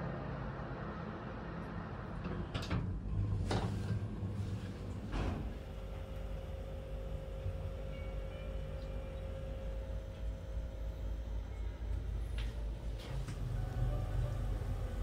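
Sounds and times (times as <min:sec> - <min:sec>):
low room rumble: 0:00.0 - 0:15.0
faint constant hum: 0:00.6 - 0:15.0.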